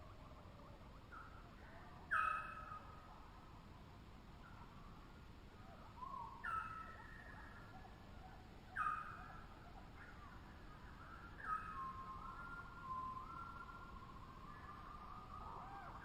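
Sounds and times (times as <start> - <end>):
softer overlapping bird calls: 0.0 - 16.0.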